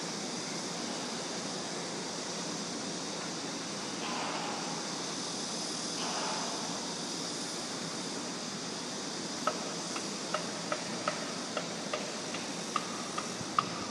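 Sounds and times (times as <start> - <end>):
background hiss: 0.0 - 13.9.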